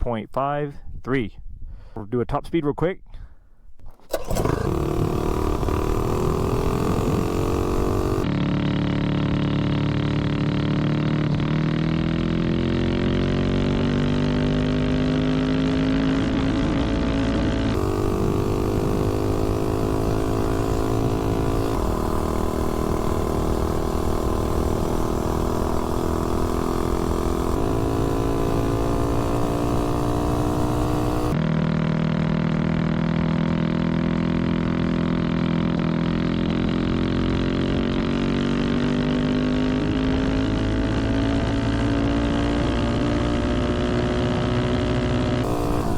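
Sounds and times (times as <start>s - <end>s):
mini bike engine revving: 4.1s - 31.4s, 34.0s - 45.9s.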